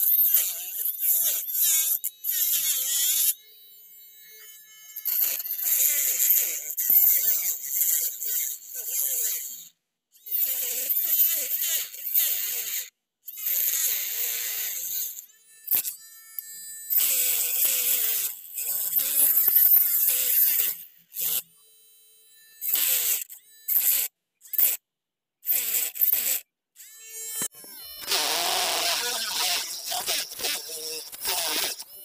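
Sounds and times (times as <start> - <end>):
rotary tool cutting plastic pipe: 0.0 - 9.6, 10.3 - 21.6, 22.2 - 24.8, 25.4 - 32.0
small motor whining: 0.0 - 24.8, 25.4 - 32.0.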